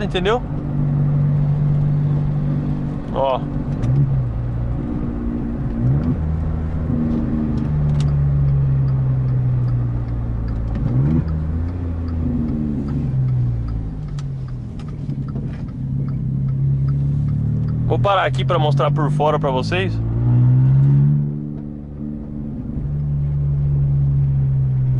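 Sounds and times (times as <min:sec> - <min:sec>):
car engine drone: 0:00.0 - 0:24.9.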